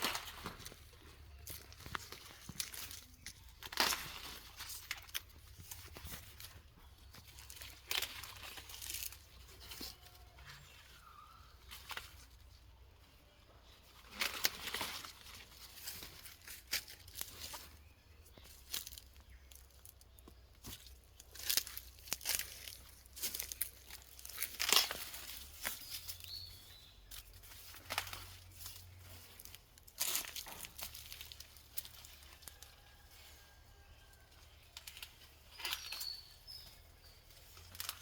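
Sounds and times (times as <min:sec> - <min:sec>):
dry leaves rustling: 0:00.0 - 0:38.0.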